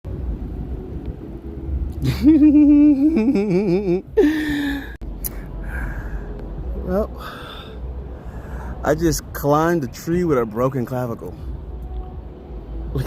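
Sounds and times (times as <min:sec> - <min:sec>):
steady low rumble: 0:00.1 - 0:13.0.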